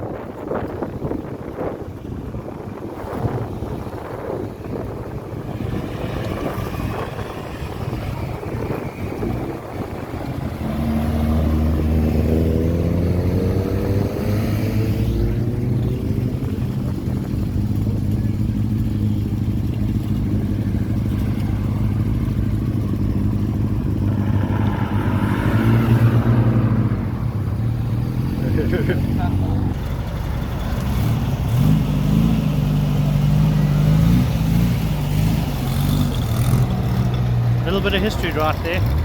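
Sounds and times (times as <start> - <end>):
car engine revving: 4.7 - 39.0.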